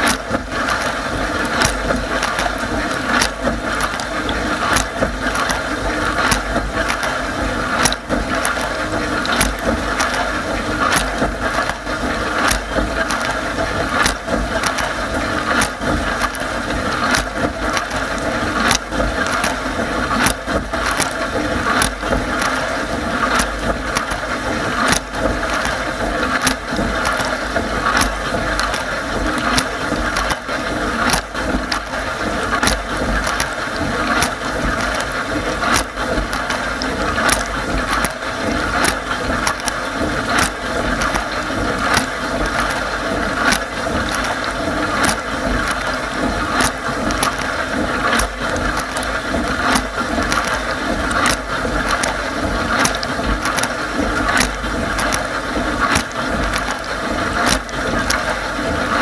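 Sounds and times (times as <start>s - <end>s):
dishwasher water spray: 0.0s - 59.0s
water drops ticking on racks: 0.0s - 59.0s.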